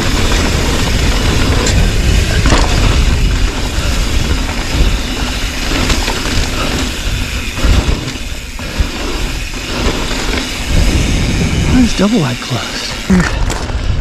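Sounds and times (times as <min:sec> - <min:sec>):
wind rumbling over microphone: 0:00.0 - 0:12.2, 0:12.8 - 0:14.0
bike rattling over bumps: 0:00.0 - 0:14.0
tyres hissing on loose dirt: 0:00.0 - 0:14.0.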